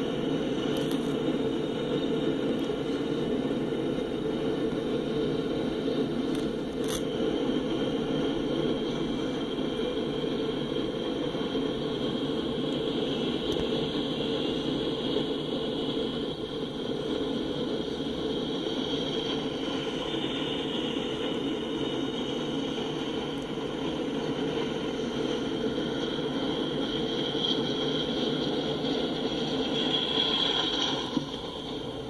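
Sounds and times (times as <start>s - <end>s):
diesel locomotives running by: 0.0s - 32.0s
freight cars rolling on rails: 0.0s - 32.0s.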